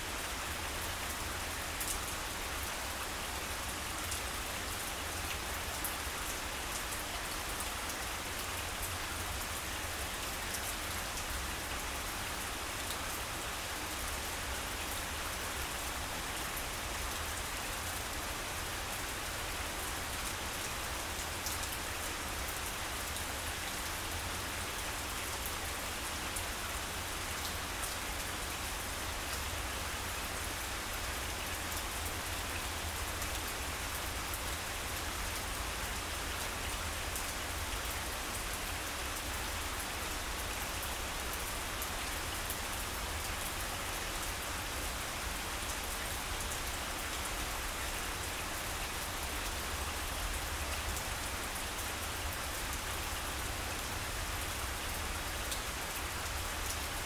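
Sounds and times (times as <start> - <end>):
rain falling on grass: 0.0 - 57.0.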